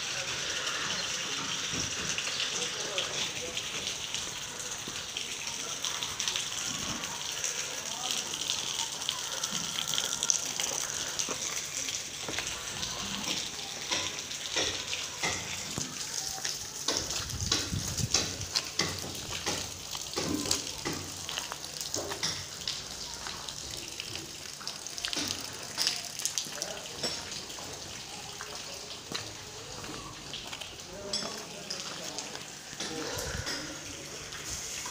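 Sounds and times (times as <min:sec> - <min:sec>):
drops hitting puddles: 0:00.0 - 0:34.9
rain falling: 0:00.0 - 0:34.9.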